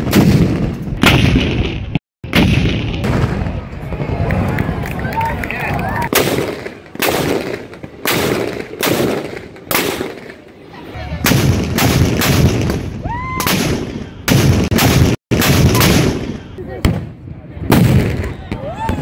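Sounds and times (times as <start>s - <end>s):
cannons firing with rolling echo: 0.0s - 4.4s, 6.1s - 18.6s.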